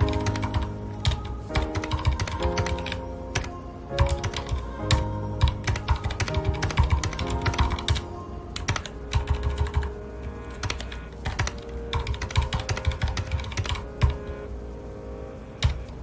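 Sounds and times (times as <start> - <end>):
mechanical keyboard typing: 0.0 - 8.0, 8.6 - 9.9, 10.6 - 14.2
soft background music: 0.0 - 16.0.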